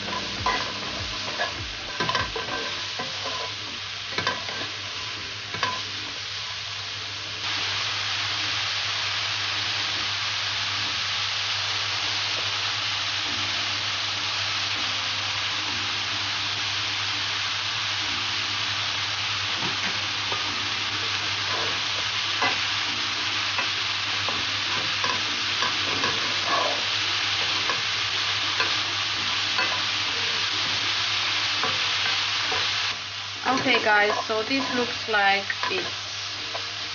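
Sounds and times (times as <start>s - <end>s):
vegetables sizzling in oil: 0.0s - 36.9s.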